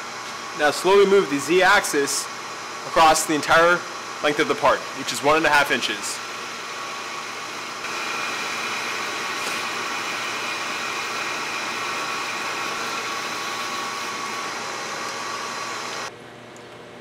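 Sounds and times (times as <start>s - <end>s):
metal lathe whirring: 0.0s - 16.1s.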